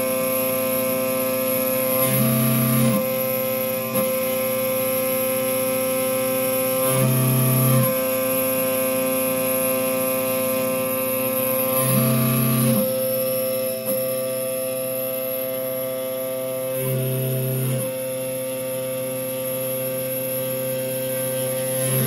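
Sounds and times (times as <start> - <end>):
mill spindle whine: 0.0 - 22.0
motor hum: 0.0 - 22.0.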